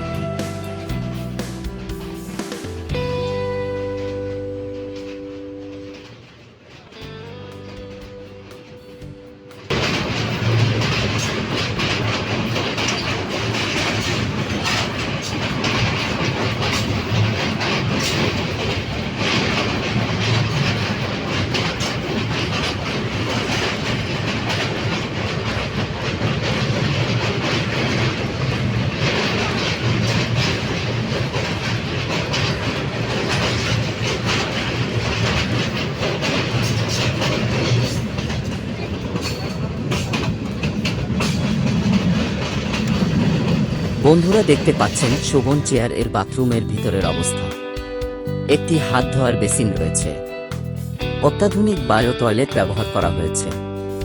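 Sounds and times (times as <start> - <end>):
train wheels clattering on rails: 0.0 - 48.0
low train rumble: 0.0 - 54.0.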